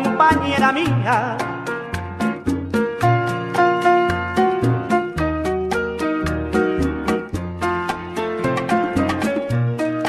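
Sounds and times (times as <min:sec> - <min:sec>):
latin dance music: 0:00.0 - 0:10.0.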